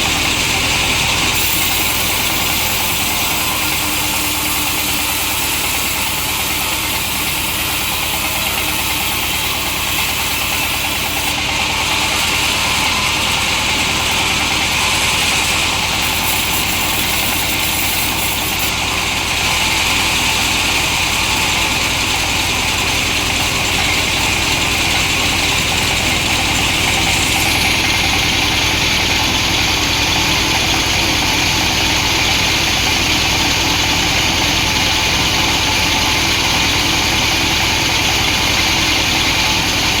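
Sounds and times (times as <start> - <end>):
chainsaw cutting log: 0.0 - 40.0.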